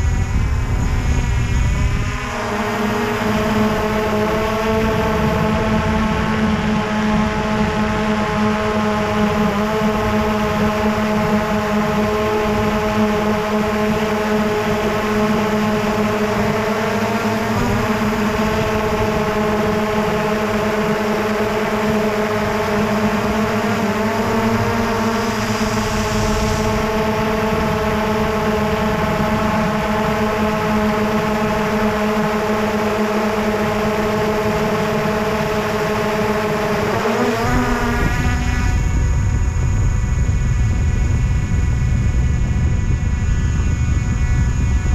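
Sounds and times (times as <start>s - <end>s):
drone propellers humming: 0.0s - 44.9s.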